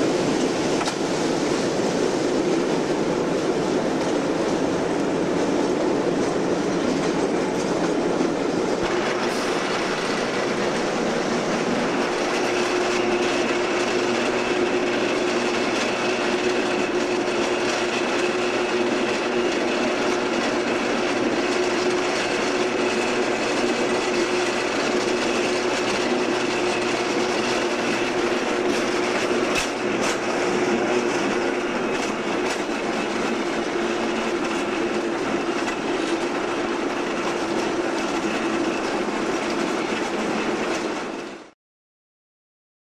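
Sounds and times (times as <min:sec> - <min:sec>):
steel wheels rumbling on rail: 0:00.0 - 0:41.6.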